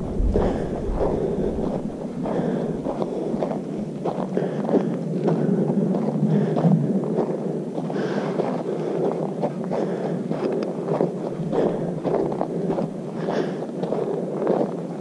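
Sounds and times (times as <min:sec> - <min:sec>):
footsteps on dirt trail: 0:00.0 - 0:15.0
wind buffeting microphone: 0:00.0 - 0:15.0.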